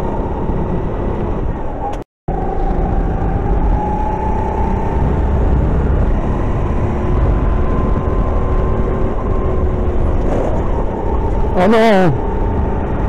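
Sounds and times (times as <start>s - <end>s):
kart engine whine: 0.0s - 13.0s
low rumble: 0.0s - 13.0s.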